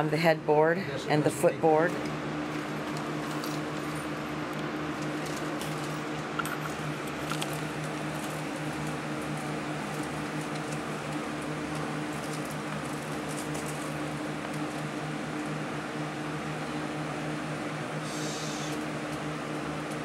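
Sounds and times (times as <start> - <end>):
electric fans humming: 0.0 - 20.0.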